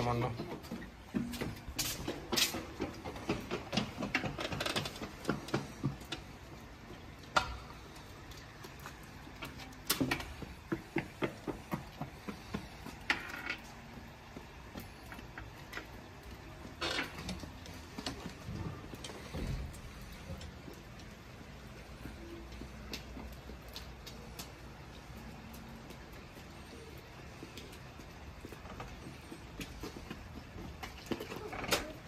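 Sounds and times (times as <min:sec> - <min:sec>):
footsteps on wet asphalt: 0:00.0 - 0:32.0
light rain: 0:00.0 - 0:32.0.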